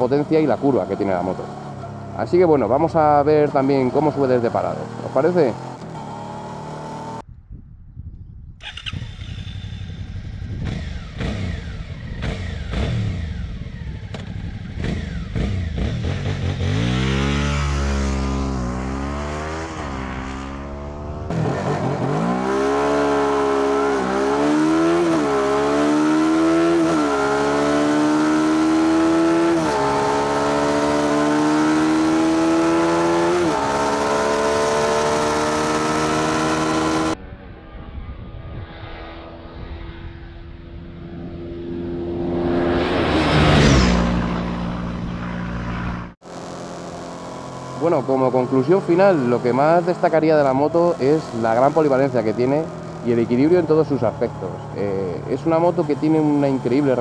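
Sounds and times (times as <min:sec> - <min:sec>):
motorcycle engine accelerating: 0:00.0 - 0:07.4, 0:08.2 - 0:57.0.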